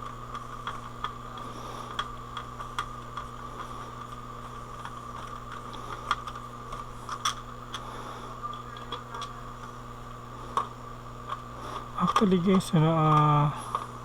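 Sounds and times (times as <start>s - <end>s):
small parts clicking and scraping: 0.0s - 7.9s, 10.4s - 14.0s
electrical hum and whine: 0.0s - 14.0s.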